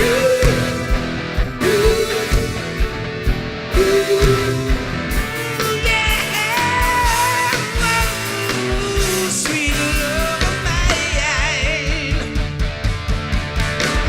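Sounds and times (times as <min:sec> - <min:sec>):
melodic lead line: 0:00.0 - 0:11.8
rock band music: 0:00.0 - 0:14.0
steady drum beat: 0:00.0 - 0:14.0.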